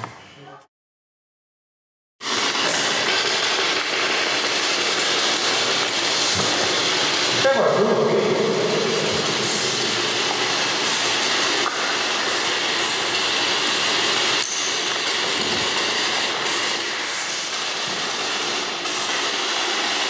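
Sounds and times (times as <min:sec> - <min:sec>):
loud rushing noise: 0:02.2 - 0:20.0.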